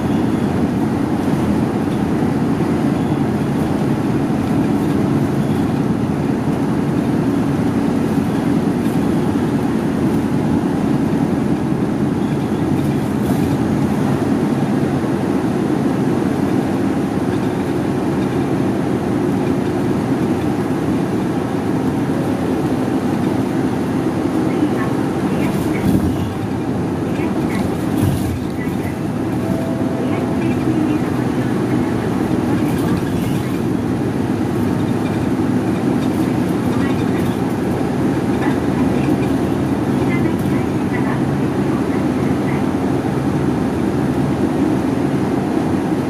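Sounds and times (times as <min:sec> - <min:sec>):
bus engine and road noise: 0:00.0 - 0:46.0.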